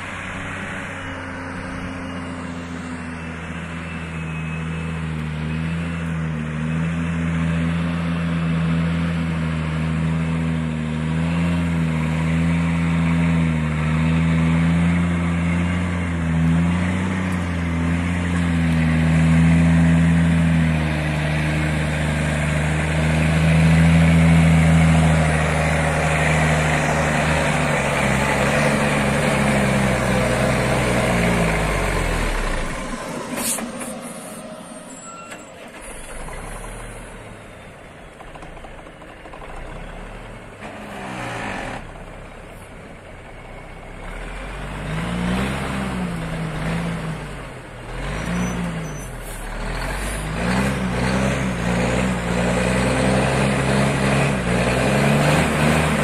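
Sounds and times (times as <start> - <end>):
diesel truck engine pulling hard: 0.0 - 56.0.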